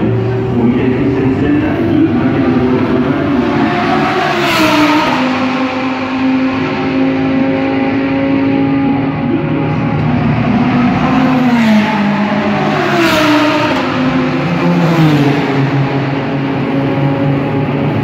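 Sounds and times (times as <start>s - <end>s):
race car driving past: 0.0s - 18.0s
race car engines revving: 0.0s - 18.0s.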